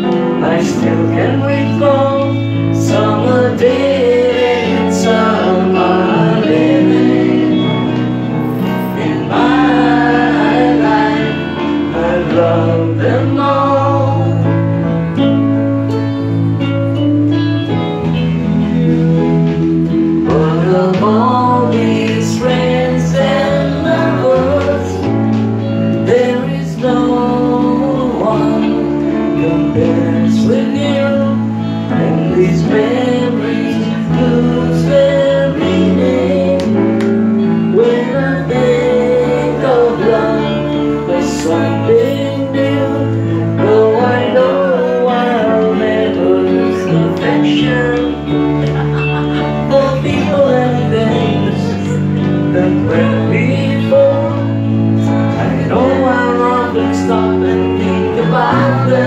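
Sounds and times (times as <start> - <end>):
chord backing: 0.0 - 59.0
electric guitar lead melody: 0.0 - 59.0.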